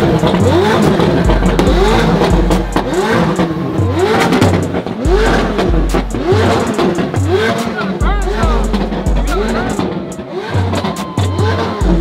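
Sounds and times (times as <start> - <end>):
car engine revving: 0.0 - 12.0
music with deep bass: 0.0 - 12.0.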